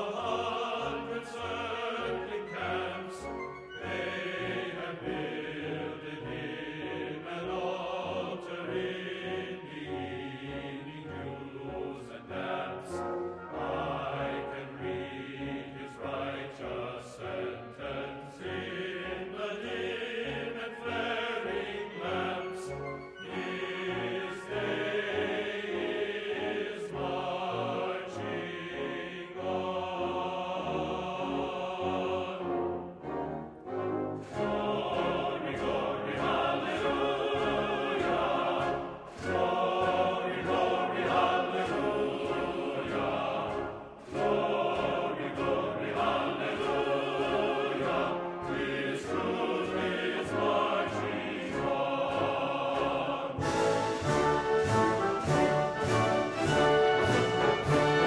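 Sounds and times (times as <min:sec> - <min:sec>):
choir with orchestra: 0:00.0 - 0:58.0.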